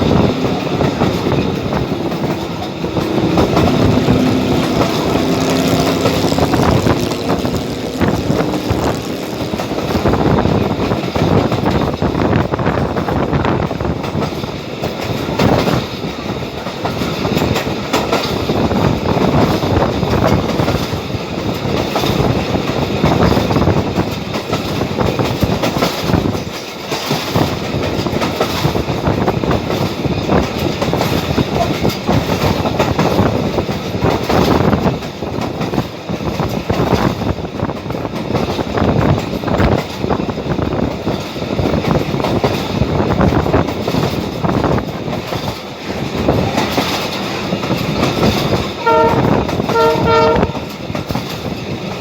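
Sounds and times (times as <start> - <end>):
train rumble: 0.0 - 52.0
wheels clattering over rail joints: 0.0 - 52.0.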